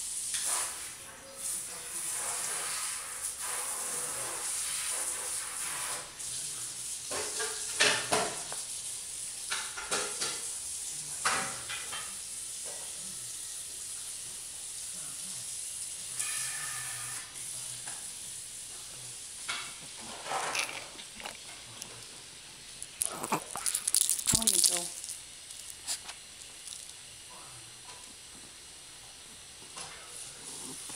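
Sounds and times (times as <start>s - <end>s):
steady hiss: 0.0s - 30.9s.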